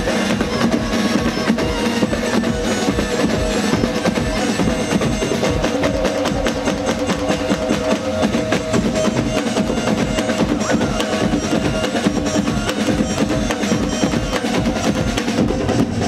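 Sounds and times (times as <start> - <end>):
drum ensemble playing fast rhythm: 0.0 - 16.0.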